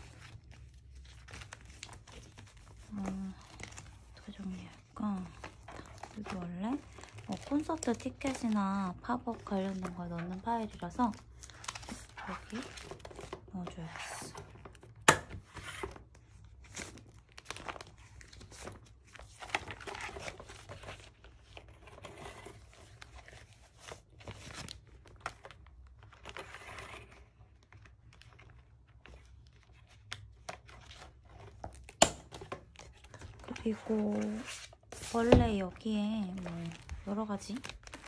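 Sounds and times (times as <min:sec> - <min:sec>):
plastic sheets crinkling: 0:00.0 - 0:38.0.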